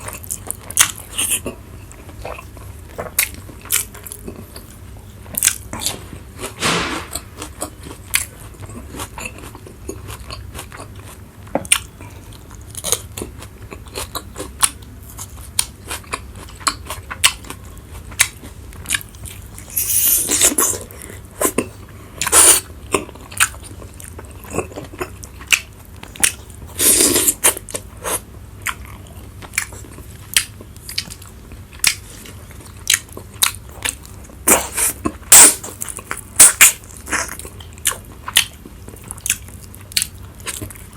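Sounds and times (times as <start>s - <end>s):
person crunching food: 0.0s - 40.9s.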